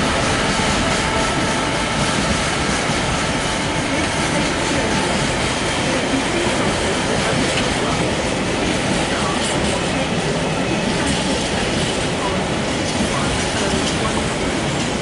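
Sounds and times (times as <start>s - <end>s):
diesel locomotive engine running: 0.0s - 14.8s
train wheels clattering on track: 0.0s - 15.0s.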